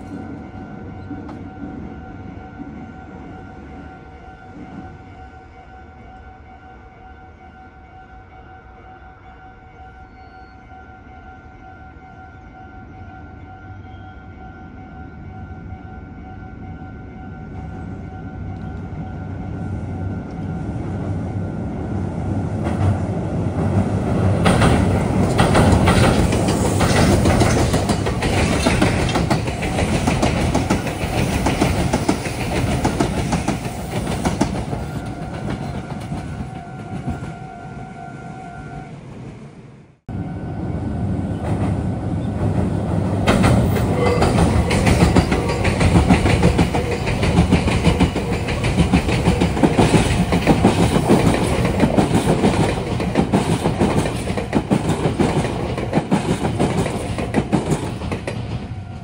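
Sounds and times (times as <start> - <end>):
electric trains passing: 0.0 - 59.0.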